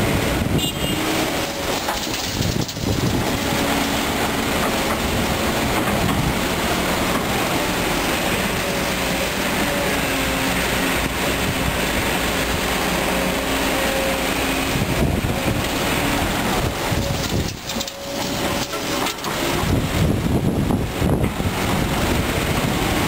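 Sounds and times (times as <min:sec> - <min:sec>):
excavator diesel engine under load: 0:00.0 - 0:23.0.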